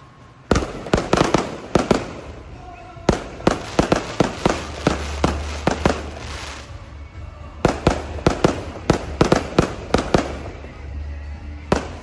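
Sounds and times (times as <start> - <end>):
fireworks hissing and crackling: 0.0 - 11.0, 11.7 - 12.0
fireworks banging: 0.5 - 11.0, 11.7 - 12.0.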